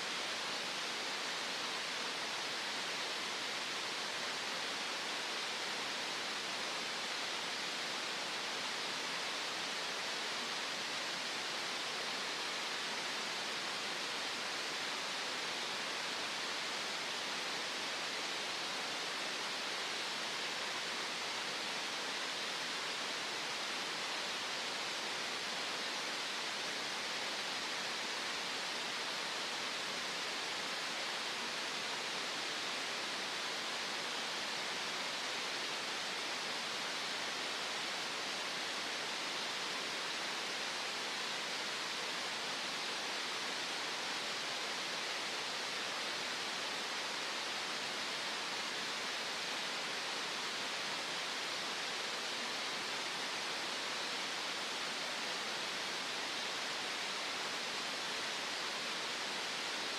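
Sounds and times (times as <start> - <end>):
steady hiss of green noise: 0.0 - 59.9.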